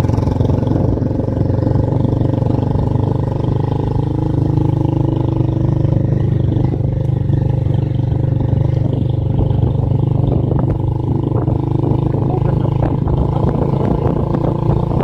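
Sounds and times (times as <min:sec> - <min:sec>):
motorcycle engine drone: 0:00.0 - 0:15.0
wind rumble on microphone: 0:00.0 - 0:15.0.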